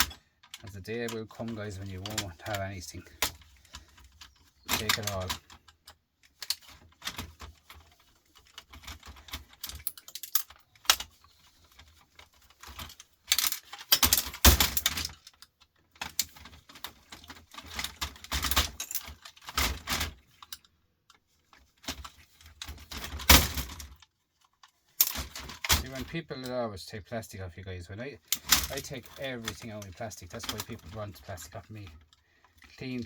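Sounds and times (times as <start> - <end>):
small plastic and metal parts clattering: 0.0 - 26.6, 28.0 - 33.0.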